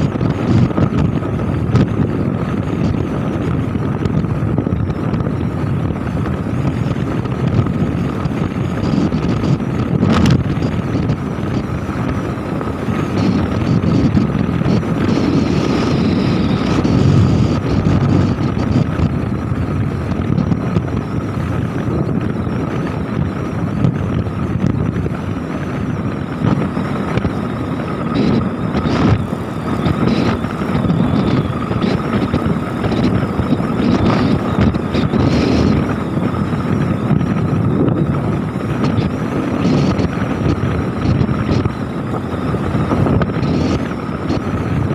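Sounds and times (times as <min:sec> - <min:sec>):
motorcycle running: 0:00.0 - 0:44.9
thin steady whine: 0:00.0 - 0:44.9
wind buffeting microphone: 0:00.0 - 0:44.9.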